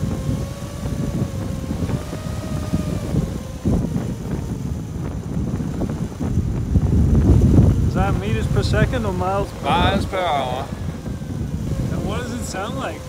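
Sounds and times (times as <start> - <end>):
anemometer fan whine: 0.0 - 13.0
wind buffeting microphone: 0.0 - 13.0.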